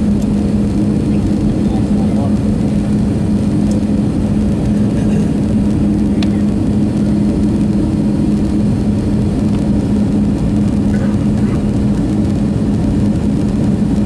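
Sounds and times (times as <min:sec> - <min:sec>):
aircraft engines roaring: 0:00.0 - 0:14.0
airflow over fuselage: 0:00.0 - 0:14.0
low constant hum: 0:00.0 - 0:14.0.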